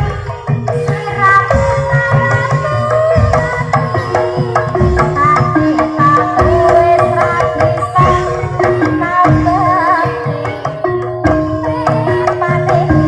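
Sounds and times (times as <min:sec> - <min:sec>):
ornamented lead melody: 0:00.0 - 0:13.0.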